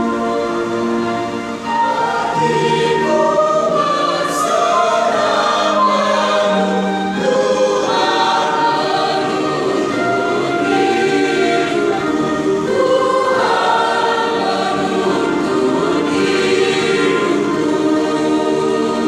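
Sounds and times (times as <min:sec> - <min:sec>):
women's choir singing in harmony: 0:00.0 - 0:19.0.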